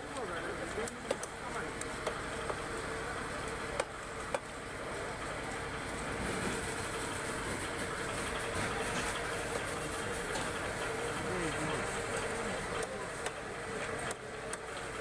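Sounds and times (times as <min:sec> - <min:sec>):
busy market din: 0:00.0 - 0:15.0.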